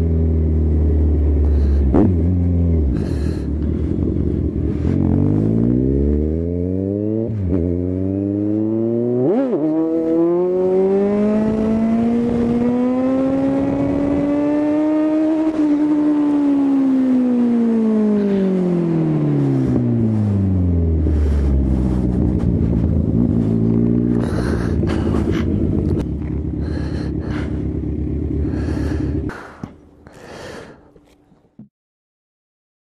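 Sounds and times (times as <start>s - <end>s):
motorcycle engine slowing and idling: 0.0s - 31.7s.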